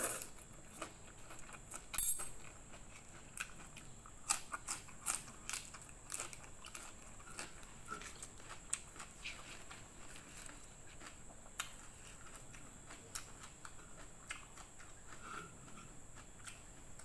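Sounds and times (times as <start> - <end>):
close chewing mouth sounds: 0.0 - 17.0.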